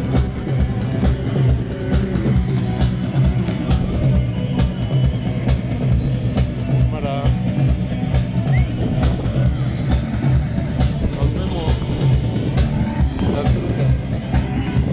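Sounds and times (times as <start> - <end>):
steady drum beat: 0.0 - 14.9.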